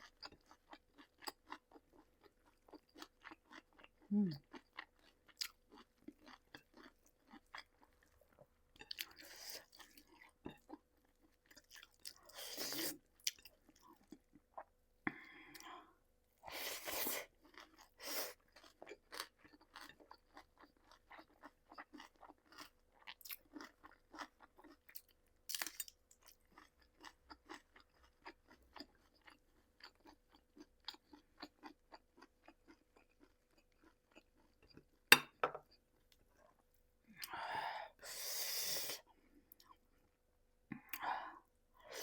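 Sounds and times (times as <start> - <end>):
mouth chewing food: 0.0 - 15.7, 16.5 - 35.1.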